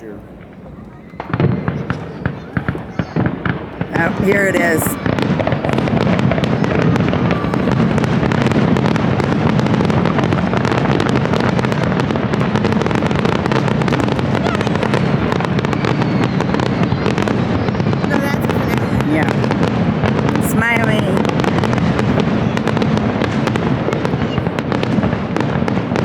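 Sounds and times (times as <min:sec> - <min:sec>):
fireworks bursts and crackles: 0:00.0 - 0:26.0.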